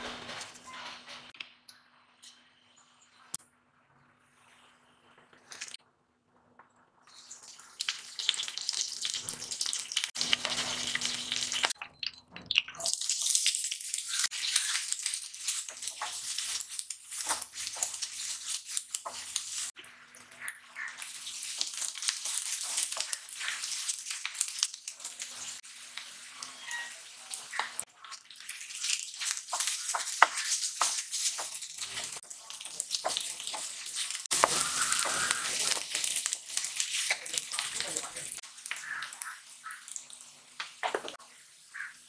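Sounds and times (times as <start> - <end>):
hot oil sizzling and spitting: 7.1 - 42.0
onions frying: 7.1 - 42.0.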